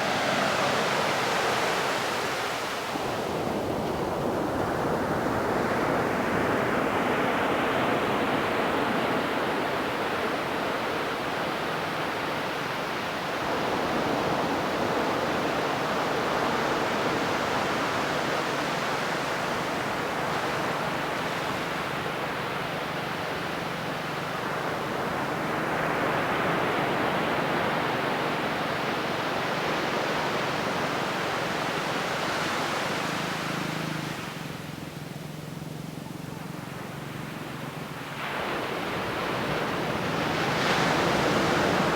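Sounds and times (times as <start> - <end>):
ocean waves washing onto beach: 0.0 - 41.9.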